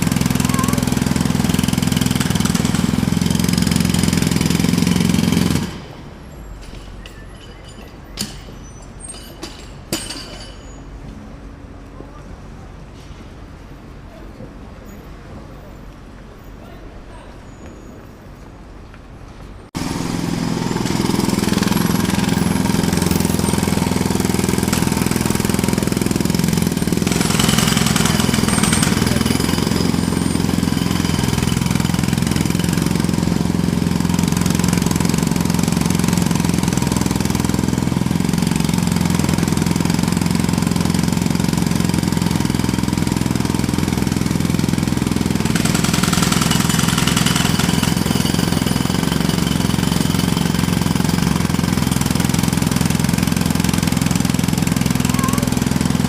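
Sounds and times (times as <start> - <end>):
jackhammer hammering: 0.0 - 10.7, 19.8 - 56.0.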